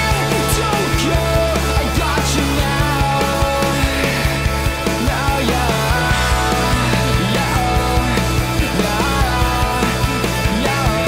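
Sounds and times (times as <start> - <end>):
rock music with drum beat: 0.0 - 11.0.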